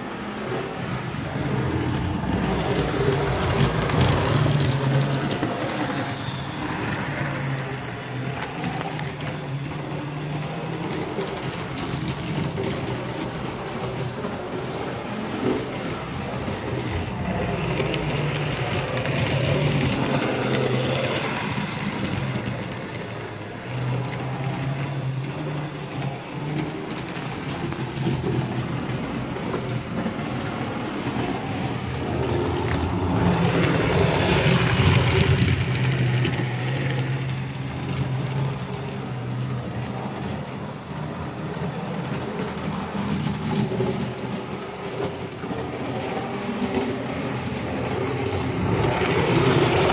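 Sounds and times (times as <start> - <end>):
wheels rolling on rails: 0.0 - 49.9.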